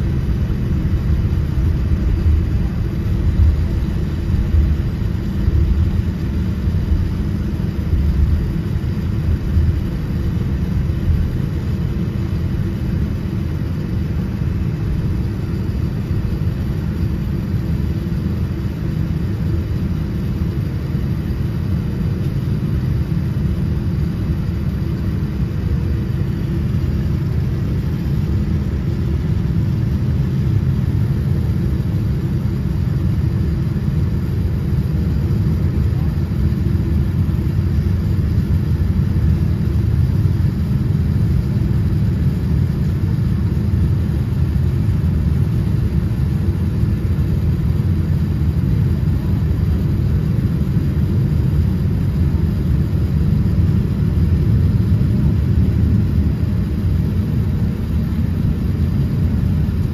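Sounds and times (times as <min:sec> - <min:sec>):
airliner cabin rumble: 0:00.0 - 0:59.9.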